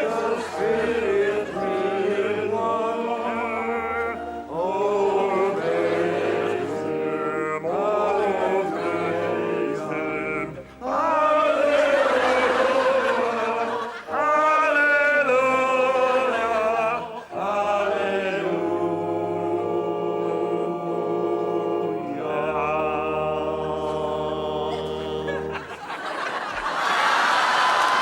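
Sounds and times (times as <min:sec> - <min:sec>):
choir singing sustained chords: 0:00.0 - 0:27.4.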